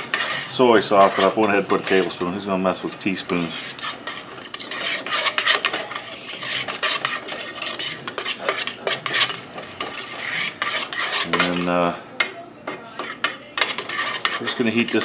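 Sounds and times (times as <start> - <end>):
utensil scraping a metal pan: 0.0 - 15.0.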